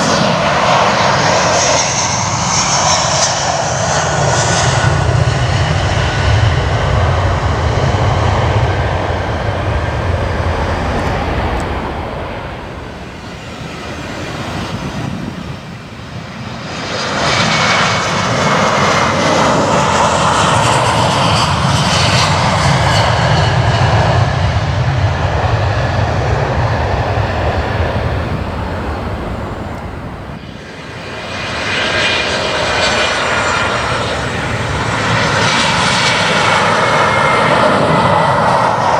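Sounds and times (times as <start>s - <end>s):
high engine whine: 0.0s - 38.8s
jet engines running: 0.0s - 38.9s.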